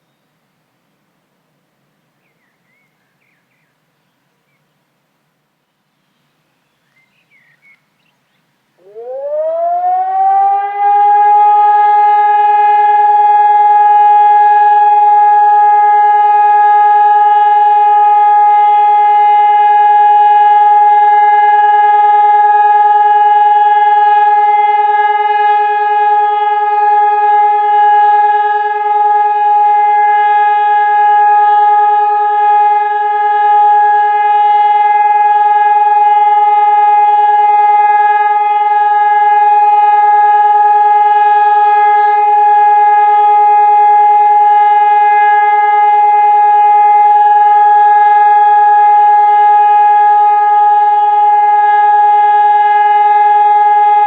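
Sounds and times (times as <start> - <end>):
electronic siren steady tone: 8.8 - 54.0.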